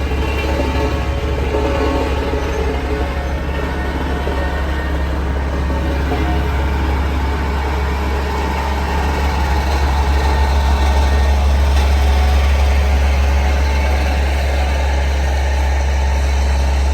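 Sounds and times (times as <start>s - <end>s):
bulldozer diesel engine droning: 0.0s - 16.9s.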